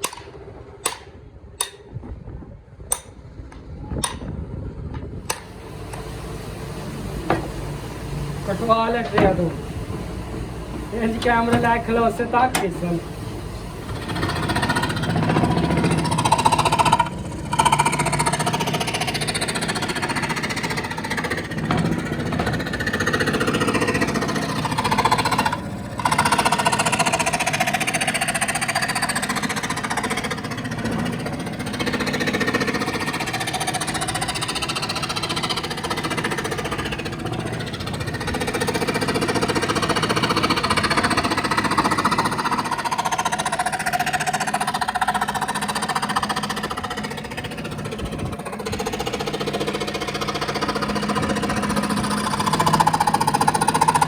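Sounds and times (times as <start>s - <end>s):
power tool cutting wood: 5.3s - 54.0s.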